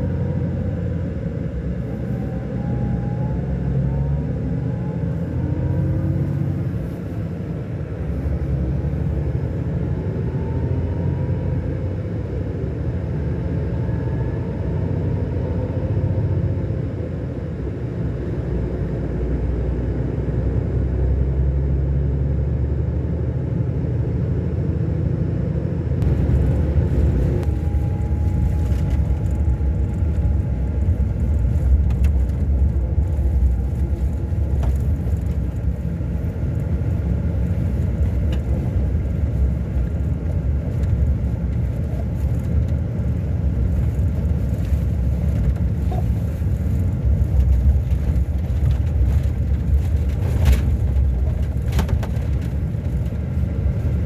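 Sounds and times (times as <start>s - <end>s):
diesel engine rumbling: 0.0s - 54.0s.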